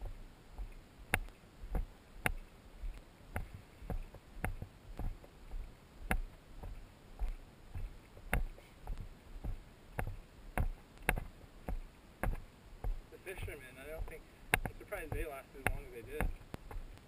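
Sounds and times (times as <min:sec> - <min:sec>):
footsteps on dirt trail: 0:00.0 - 0:17.0.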